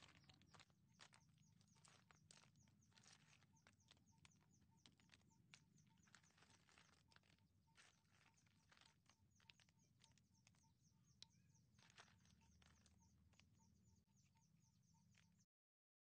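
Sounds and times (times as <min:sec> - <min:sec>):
snail shells clicking together: 0:00.0 - 0:15.4.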